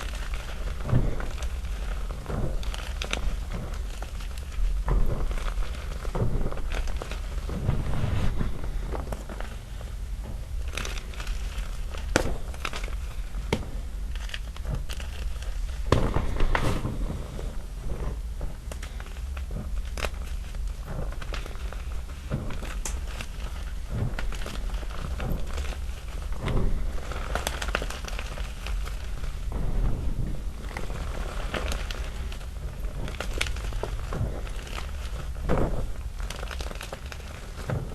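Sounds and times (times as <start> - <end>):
chalk snapping and crackling: 0.0 - 37.9
soft crunching of chalk powder: 0.0 - 37.9.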